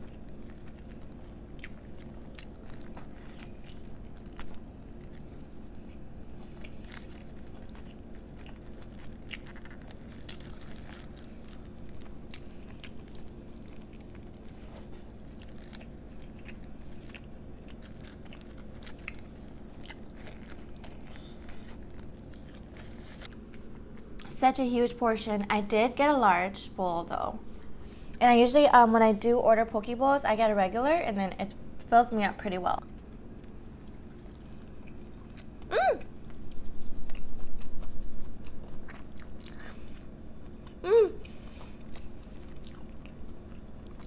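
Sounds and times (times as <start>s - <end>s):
chewing and crunching: 0.0s - 24.3s, 32.9s - 44.0s
faint steady hum: 0.0s - 44.0s.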